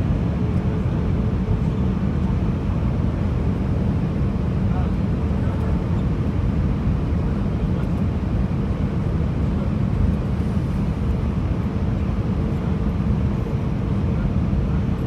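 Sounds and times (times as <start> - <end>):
airplane engine rumble: 0.0 - 15.0.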